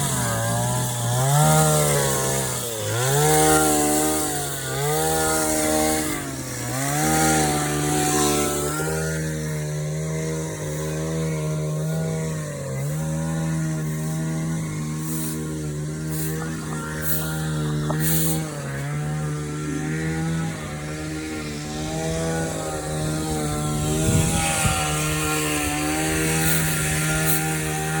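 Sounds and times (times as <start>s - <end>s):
small petrol engine revving: 0.0s - 28.0s.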